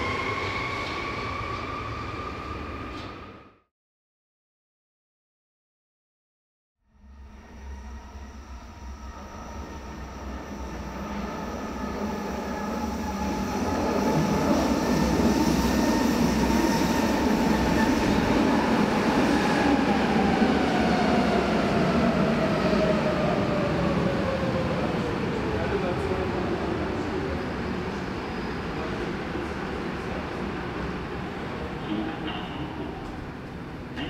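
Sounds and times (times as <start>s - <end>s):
subway train arriving: 0.0s - 3.6s, 6.9s - 34.0s.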